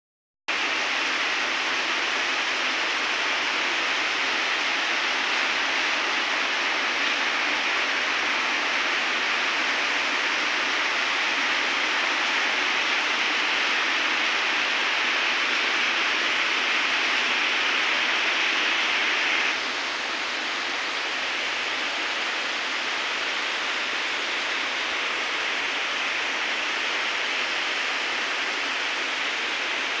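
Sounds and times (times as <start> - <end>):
heavy rain: 0.5 - 30.0.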